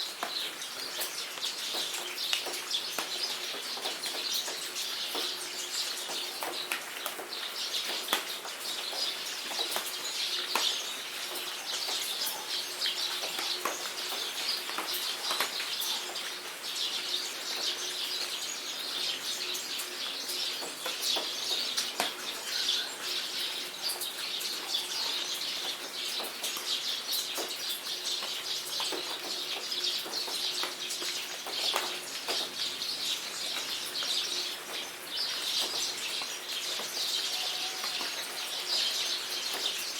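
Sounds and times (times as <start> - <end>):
rain falling: 0.0 - 39.9
birds chirping: 0.1 - 39.9.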